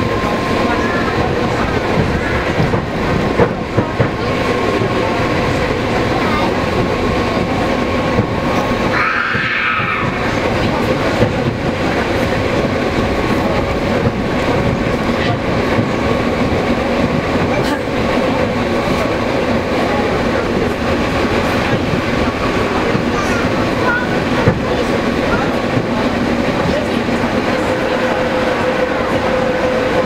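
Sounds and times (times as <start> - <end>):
train running rumble and rattle: 0.0 - 30.0.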